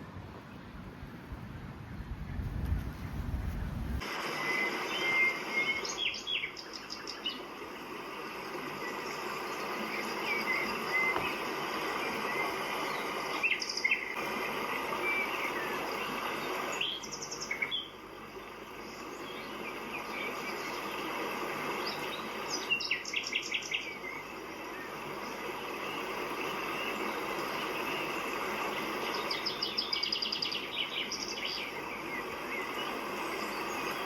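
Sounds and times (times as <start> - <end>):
outdoor background hum: 0.0 - 34.0
birds calling: 4.0 - 34.0.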